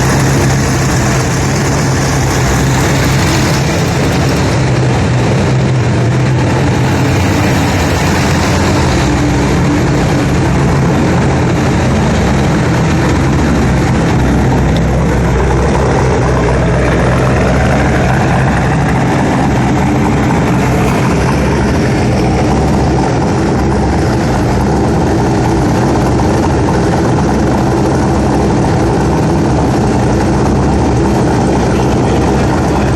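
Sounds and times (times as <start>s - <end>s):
loud car engine running: 0.0s - 32.9s.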